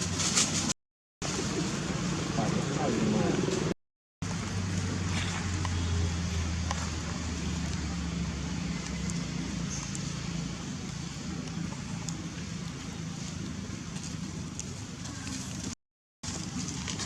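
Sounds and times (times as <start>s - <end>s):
low engine hum: 1.2s - 17.0s.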